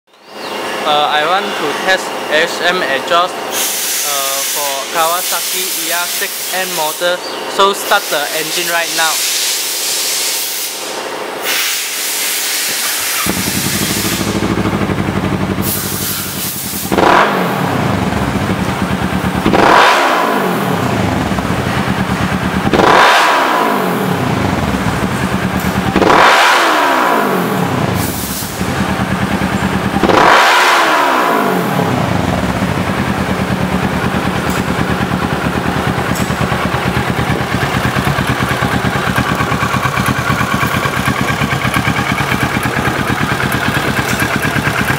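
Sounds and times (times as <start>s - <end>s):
motorcycle engine revving and idling: 0.3s - 44.9s.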